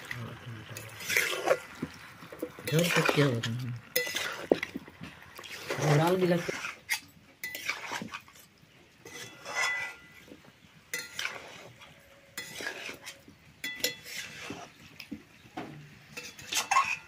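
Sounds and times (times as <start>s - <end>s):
metal utensil scraping a pot: 0.7s - 10.3s, 10.9s - 14.9s, 16.0s - 17.0s.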